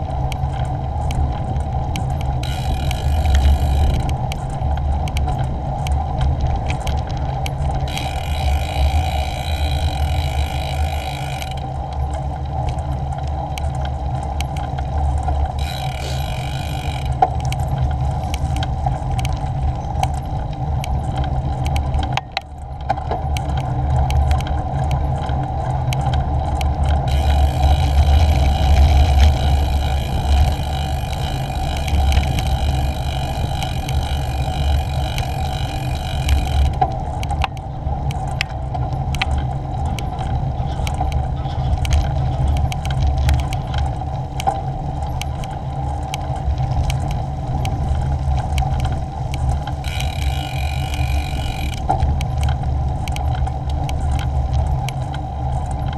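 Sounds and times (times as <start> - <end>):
small clicks and rattles: 0.0 - 55.9
wind and bicycle tyre rumble: 0.0 - 55.9.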